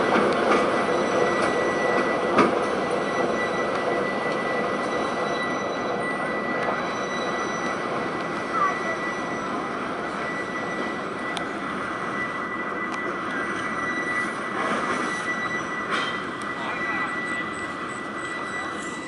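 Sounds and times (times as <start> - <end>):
locomotive diesel engine droning: 0.0 - 19.0.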